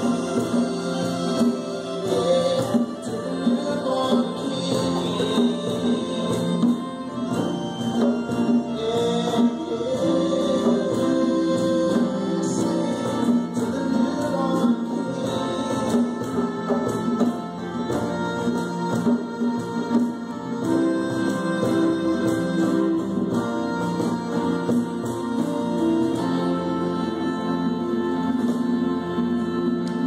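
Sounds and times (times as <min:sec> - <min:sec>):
acoustic guitar: 0:00.0 - 0:30.0
hand drum: 0:00.0 - 0:30.0
keyboard: 0:00.0 - 0:30.0
soprano saxophone: 0:00.0 - 0:30.0.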